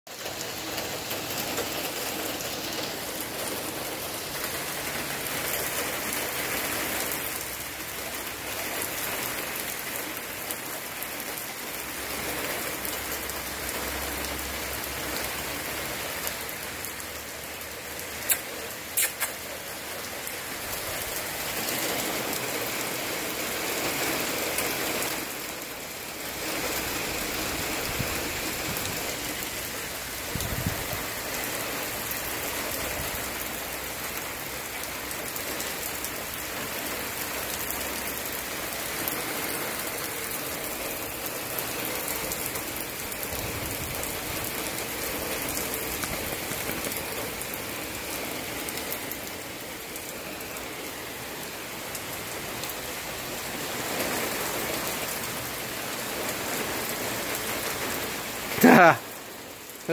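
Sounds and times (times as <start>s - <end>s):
rain pattering on pavement: 0.1s - 59.9s.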